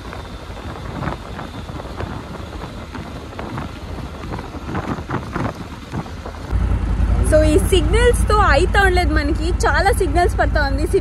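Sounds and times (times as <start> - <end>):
motorcycle engine and road rumble: 0.0 - 11.0
wind buffeting microphone: 0.0 - 11.0.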